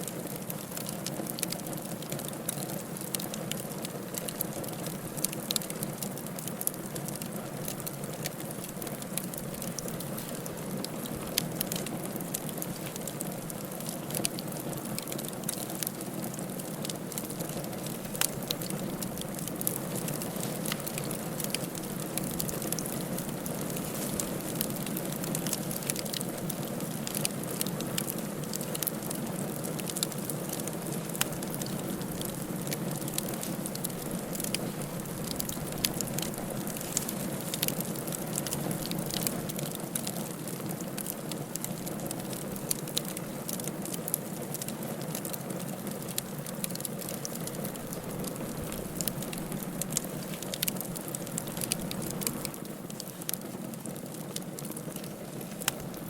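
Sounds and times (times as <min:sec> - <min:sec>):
fire burning in a fireplace: 0:00.0 - 0:56.0
fire crackling and popping: 0:00.0 - 0:56.0.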